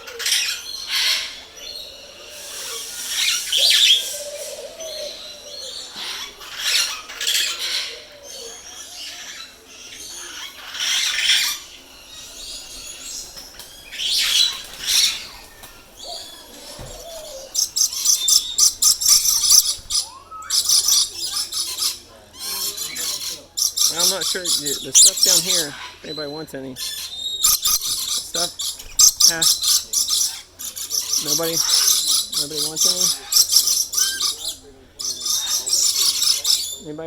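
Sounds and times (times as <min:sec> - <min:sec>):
parrots screeching: 0:00.0 - 0:36.9.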